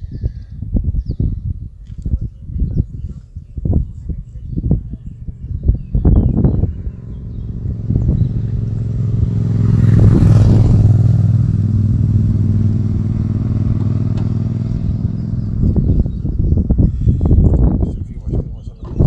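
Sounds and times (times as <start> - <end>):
low motor hum: 2.6 - 18.0.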